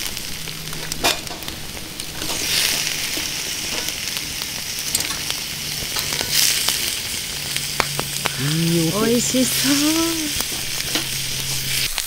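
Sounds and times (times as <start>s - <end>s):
meat sizzling on grill: 0.0s - 12.0s
wood fire crackling: 0.0s - 12.0s.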